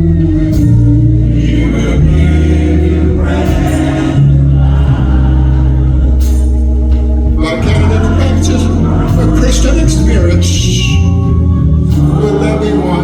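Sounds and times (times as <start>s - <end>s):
gospel singing: 0.0s - 13.0s
sustained low chords: 0.0s - 13.0s.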